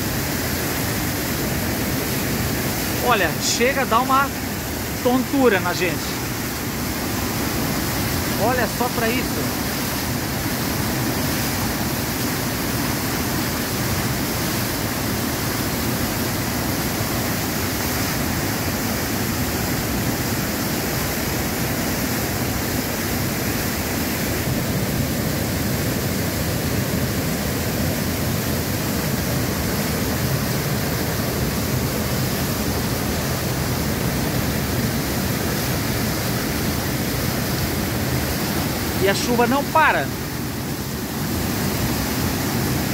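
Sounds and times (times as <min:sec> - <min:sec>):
water crashing over rocks: 0:00.0 - 0:42.9.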